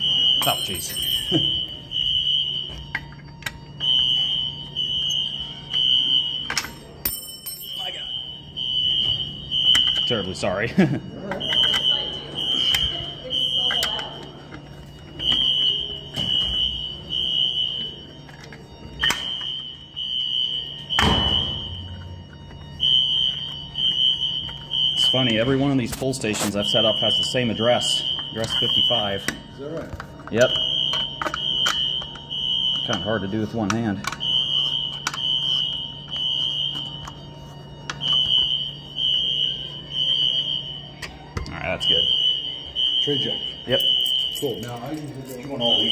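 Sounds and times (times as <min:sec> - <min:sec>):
fire alarm horn blasts: 0:00.0 - 0:45.9.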